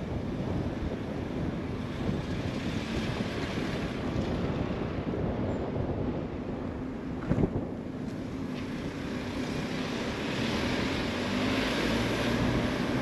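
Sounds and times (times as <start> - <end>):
car tyre and wind noise: 0.0 - 13.0.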